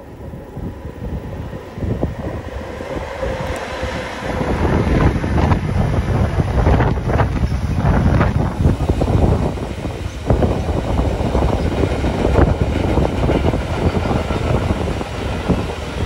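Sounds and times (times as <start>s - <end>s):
electric locomotive rumble and whine: 0.0s - 16.0s
wind buffeting microphone: 0.0s - 16.0s.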